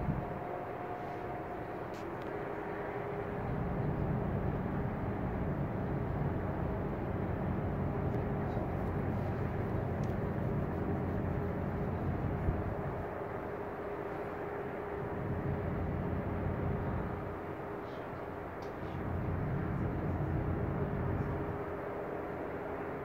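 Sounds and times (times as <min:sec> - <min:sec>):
constant hum: 0:00.0 - 0:23.0
ship engines rumbling: 0:00.0 - 0:23.0.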